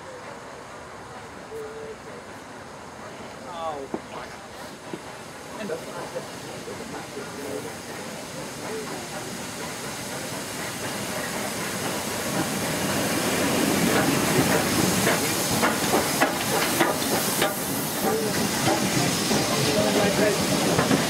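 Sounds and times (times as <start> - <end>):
steam hissing: 0.0 - 21.0.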